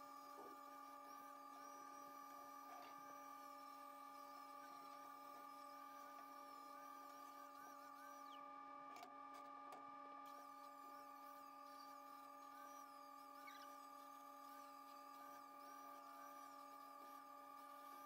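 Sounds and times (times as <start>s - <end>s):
faint hum of held tones: 0.0s - 18.0s.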